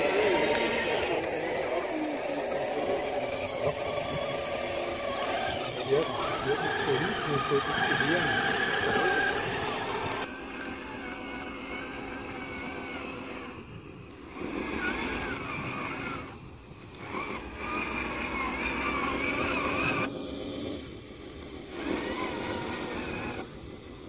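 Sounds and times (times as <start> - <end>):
model truck motor and gears whining: 0.0 - 24.0.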